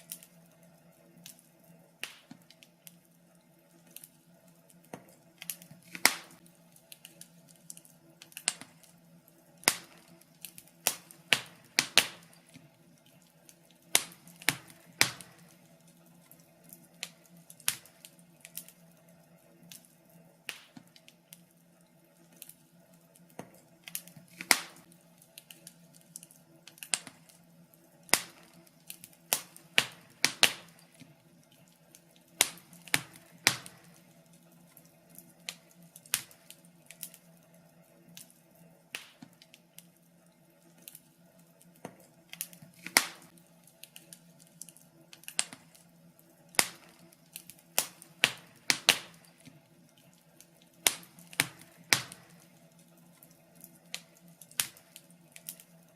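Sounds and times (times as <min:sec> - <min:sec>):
faint steady hum: 0:00.0 - 0:55.9
fireplace fire crackling: 0:00.0 - 0:55.9.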